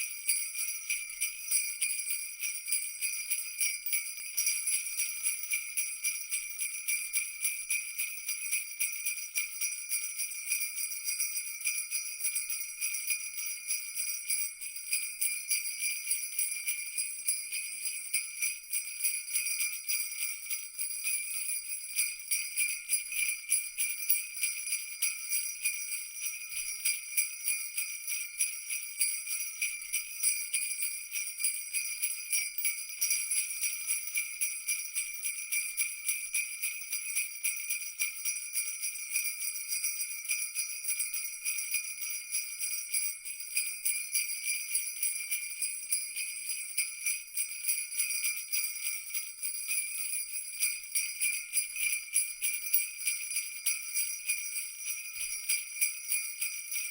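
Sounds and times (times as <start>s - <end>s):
sleigh bells jingling: 0.0s - 56.9s.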